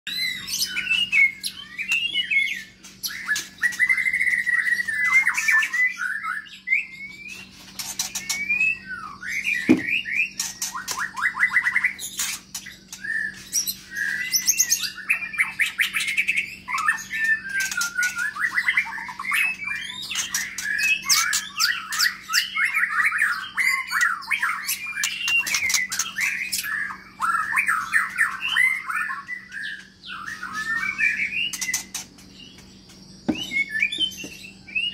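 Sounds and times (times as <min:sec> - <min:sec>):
bird singing whistled phrases: 0:00.1 - 0:12.1, 0:12.7 - 0:32.0, 0:33.2 - 0:34.9.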